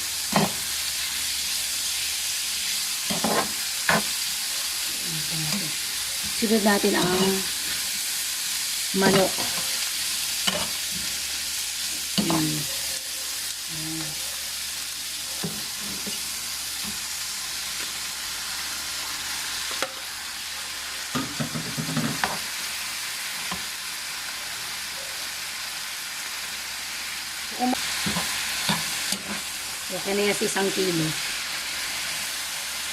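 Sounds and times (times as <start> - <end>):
chicken sizzling in a pan: 0.0 - 32.9.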